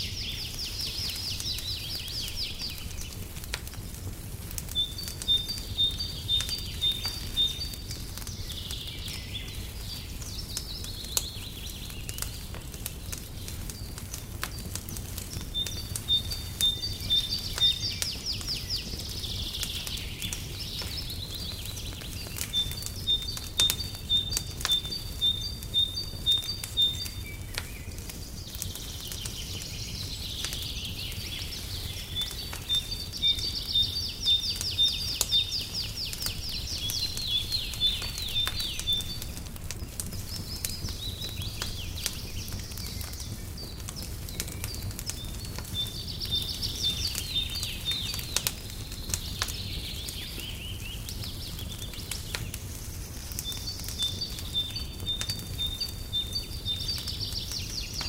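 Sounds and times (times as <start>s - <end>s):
fire popping: 0.0s - 58.0s
songbirds chirping and trilling: 0.0s - 58.0s
wood fire crackling: 0.0s - 58.0s.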